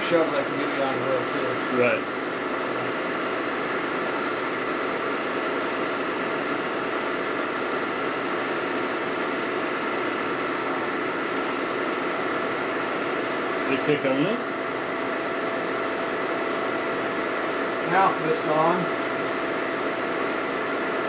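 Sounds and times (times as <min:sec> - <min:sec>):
milling machine cutting metal: 0:00.0 - 0:18.9
thin high whine: 0:00.0 - 0:19.6.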